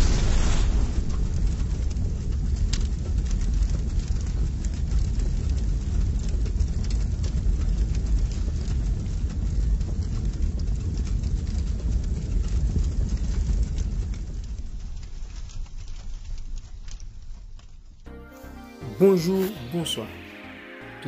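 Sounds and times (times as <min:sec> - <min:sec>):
deep rumble: 0:00.0 - 0:18.0
scattered crackles: 0:00.0 - 0:21.0.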